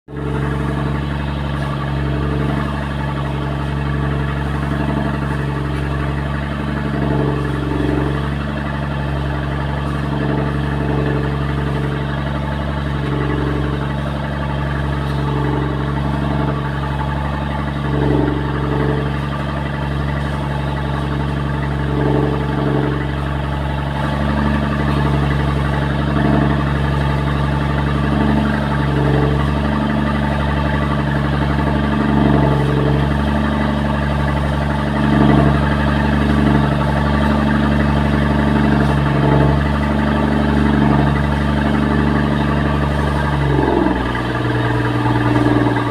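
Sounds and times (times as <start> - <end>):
boat engine droning: 0.0 - 45.9.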